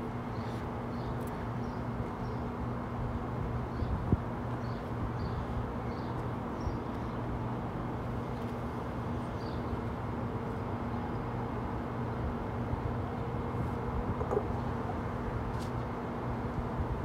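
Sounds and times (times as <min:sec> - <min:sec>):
outdoor background noise: 0:00.0 - 0:17.0
steady low hum: 0:00.0 - 0:17.0.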